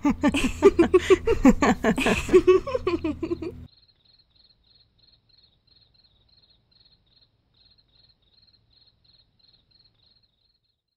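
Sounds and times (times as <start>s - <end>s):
crickets chirping: 0.4s - 10.8s.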